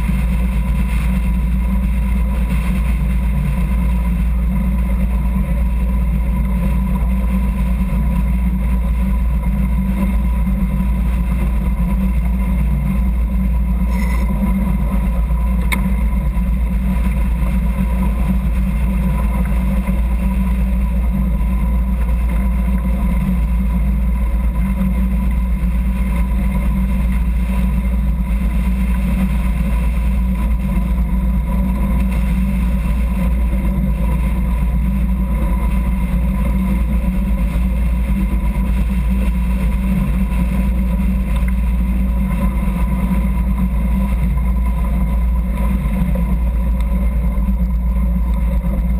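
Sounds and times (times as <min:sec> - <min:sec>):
boat engine running: 0:00.0 - 0:48.9
water rushing along hull: 0:00.0 - 0:48.9.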